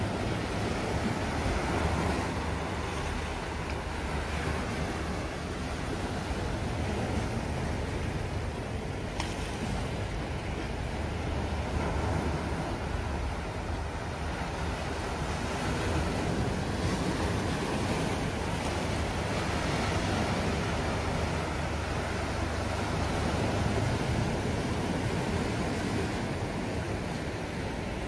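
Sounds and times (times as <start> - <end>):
surf washing over rocks: 0.0 - 28.0.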